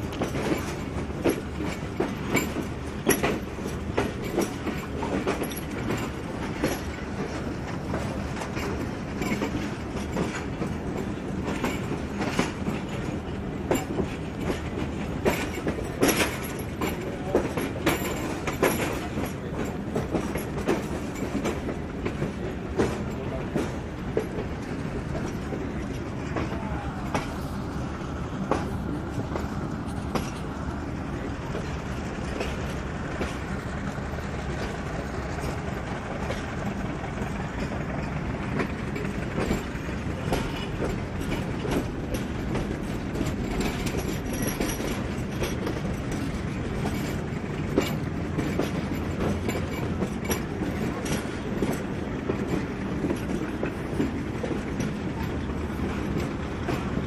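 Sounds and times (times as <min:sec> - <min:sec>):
train rumble: 0:00.0 - 0:57.0
wheels clicking over rail joints: 0:00.0 - 0:57.0.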